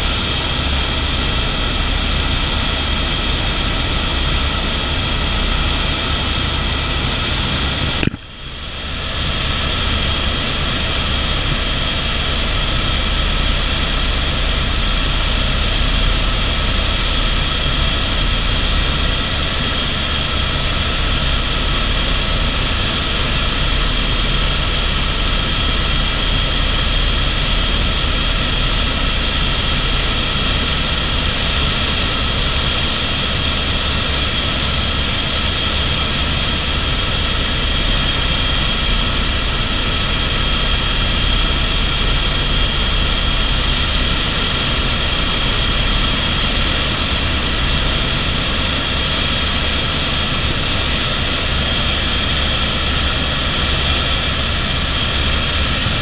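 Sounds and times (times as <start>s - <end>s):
helicopter rotor rumble: 0.0s - 56.0s
helicopter turbine whine: 0.0s - 56.0s.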